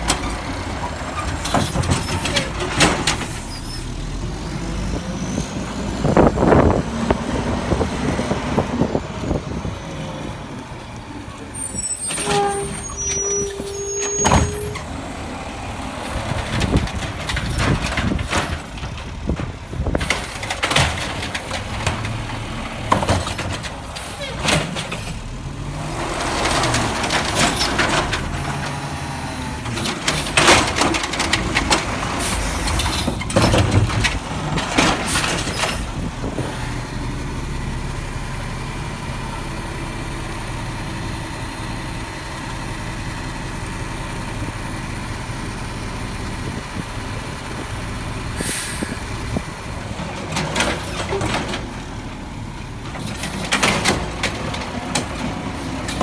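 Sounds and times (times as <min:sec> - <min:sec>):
garbage truck diesel engine running: 0:00.0 - 0:56.0.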